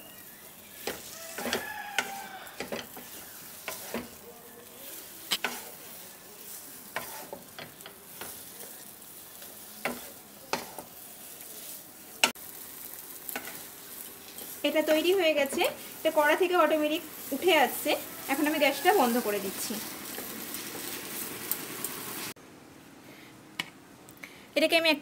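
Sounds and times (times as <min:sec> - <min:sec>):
faint sizzle of ghee: 0:00.0 - 0:22.4
wooden spatula scraping a pan: 0:00.6 - 0:12.4, 0:13.3 - 0:21.6.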